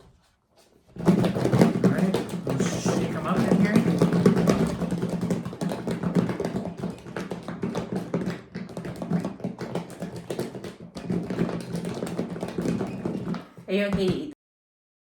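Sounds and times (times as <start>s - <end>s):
food rattling in plastic container: 0.9s - 13.6s.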